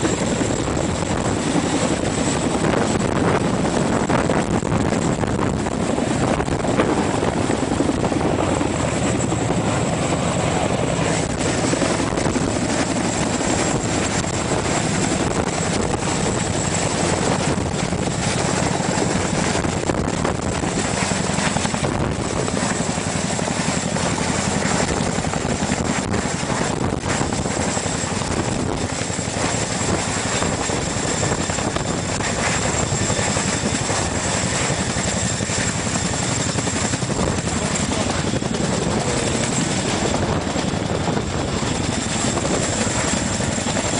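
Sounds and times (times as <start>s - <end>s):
helicopter hovering: 0.0s - 43.9s.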